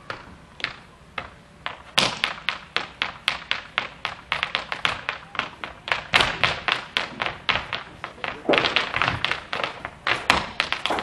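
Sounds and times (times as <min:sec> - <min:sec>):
hard-shoe dance taps and stamps: 0:00.1 - 0:11.0.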